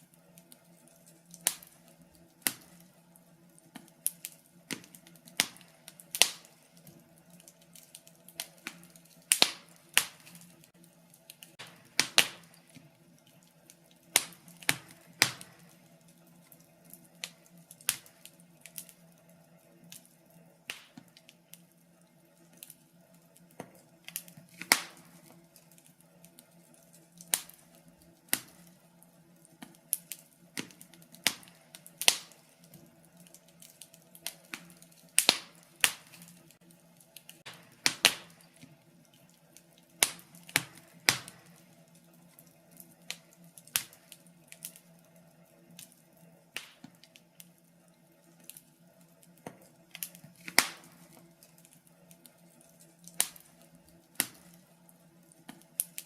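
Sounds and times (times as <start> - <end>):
sharp pops from fire: 0.0 - 19.1, 19.8 - 21.8, 22.4 - 45.0, 45.7 - 47.6, 48.4 - 56.0
faint steady hum: 0.0 - 56.0
wood fire crackling: 0.0 - 56.0.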